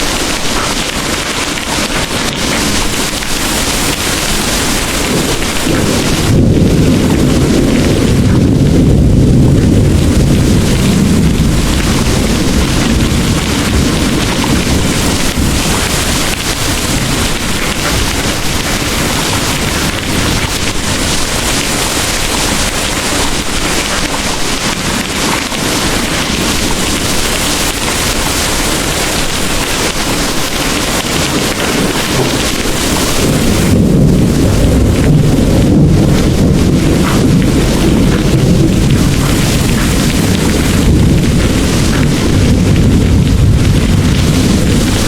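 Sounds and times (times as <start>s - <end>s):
heavy rain pouring: 0.0s - 45.0s
rolling thunder: 0.0s - 45.0s.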